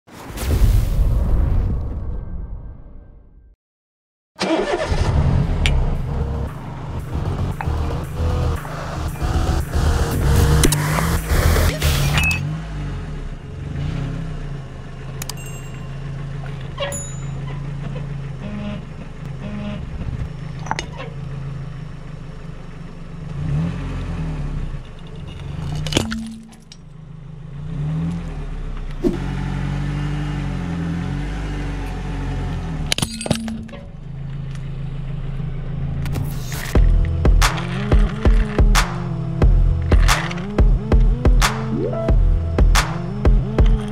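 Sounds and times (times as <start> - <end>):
car engine running low: 4.4 - 43.9.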